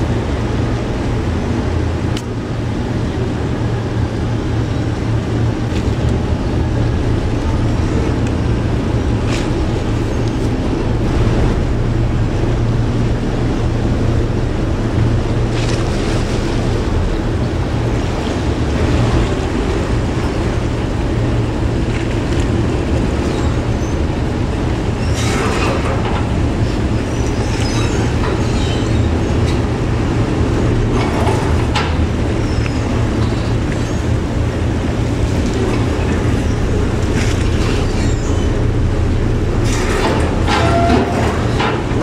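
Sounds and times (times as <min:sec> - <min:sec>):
ferry engines rumbling: 0:00.0 - 0:42.0.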